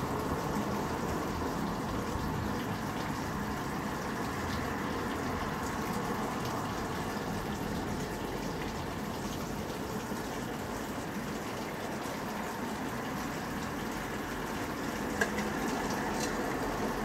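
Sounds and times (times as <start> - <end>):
water running from a tap: 0.0 - 17.0.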